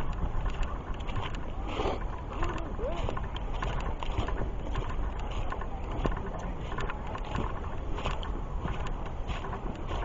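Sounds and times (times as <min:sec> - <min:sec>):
footsteps on dirt trail: 0:00.0 - 0:10.0
low microphone rumble: 0:00.0 - 0:10.0.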